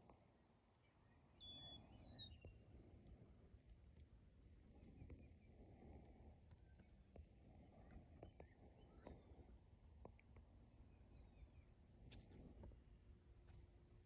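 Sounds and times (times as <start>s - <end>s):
faint songbird chirps: 0.7s - 13.0s.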